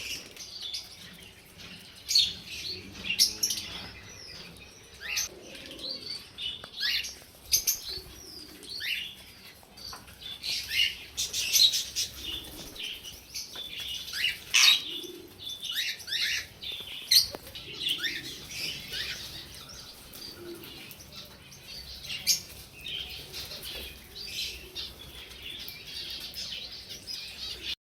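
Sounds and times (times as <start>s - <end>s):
budgies chirping: 0.0s - 27.8s.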